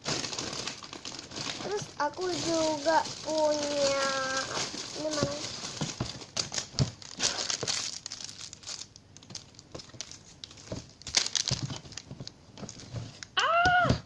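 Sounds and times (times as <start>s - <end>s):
plastic bags crinkling: 0.0s - 13.4s.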